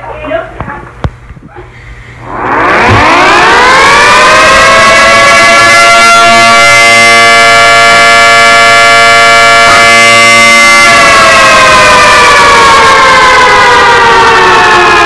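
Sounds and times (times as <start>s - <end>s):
civil defense siren wailing: 2.2s - 15.0s.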